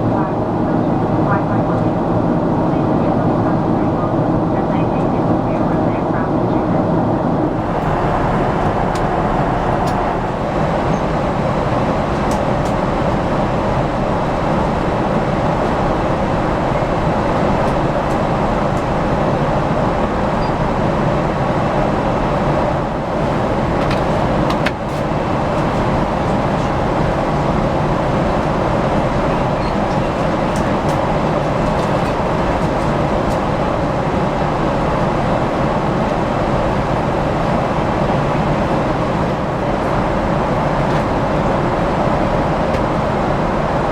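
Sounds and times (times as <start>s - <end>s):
airliner cabin airflow and engine noise: 0.0s - 43.9s.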